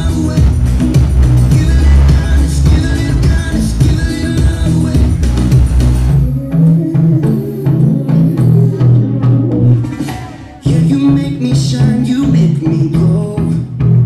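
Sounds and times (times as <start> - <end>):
loud dance music over speakers: 0.0 - 14.0.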